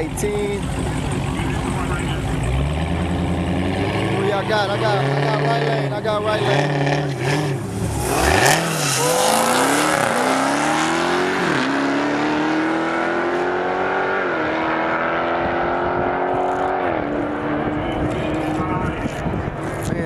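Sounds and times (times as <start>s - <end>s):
cars accelerating at full throttle: 0.0s - 20.0s.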